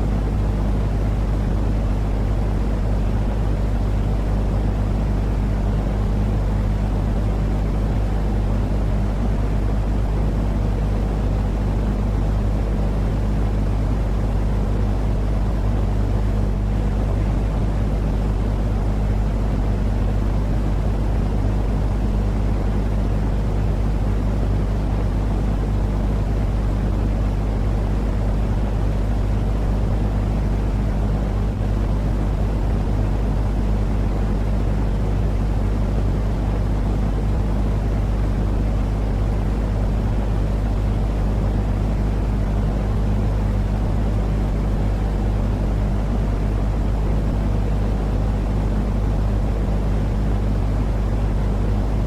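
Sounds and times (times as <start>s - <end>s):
low rumbling noise with hum: 0.0s - 52.0s.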